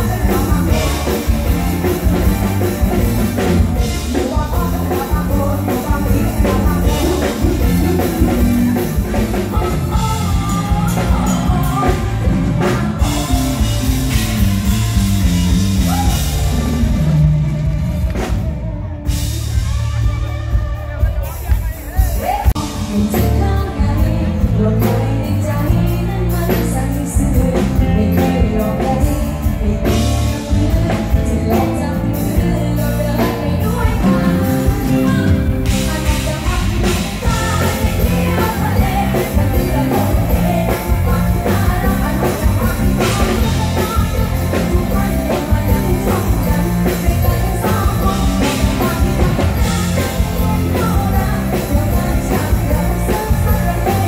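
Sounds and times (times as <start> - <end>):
woman singing into microphone: 0.0 - 14.3, 22.2 - 54.0
amplified band with drums: 0.0 - 54.0.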